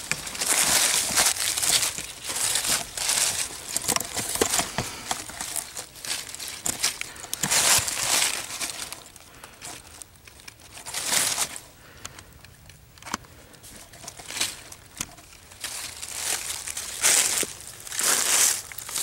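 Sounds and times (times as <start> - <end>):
leaves crunching underfoot: 0.0 - 11.7, 13.6 - 19.0.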